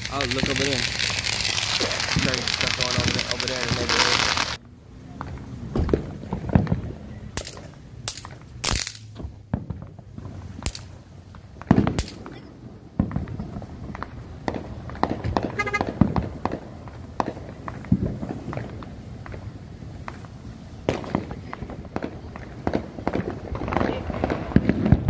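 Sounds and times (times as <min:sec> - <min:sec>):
firework bangs: 0:00.0 - 0:04.6, 0:05.2 - 0:25.0
firecrackers crackling pops: 0:00.0 - 0:25.0.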